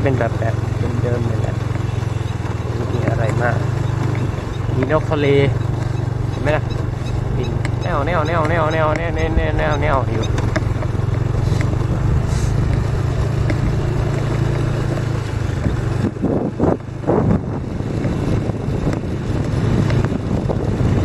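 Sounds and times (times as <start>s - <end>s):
motorcycle engine running: 0.0s - 21.0s
wind noise on microphone: 2.0s - 21.0s.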